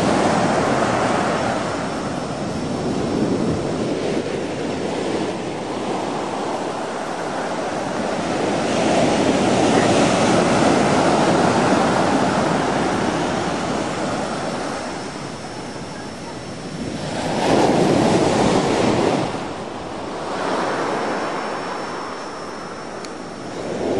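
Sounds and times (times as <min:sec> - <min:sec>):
ocean surf breaking on beach: 0:00.0 - 0:23.9.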